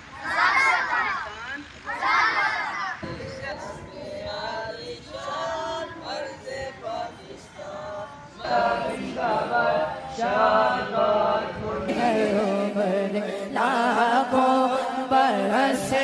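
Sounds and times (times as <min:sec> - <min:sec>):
group singing a chant: 0:01.9 - 0:16.0.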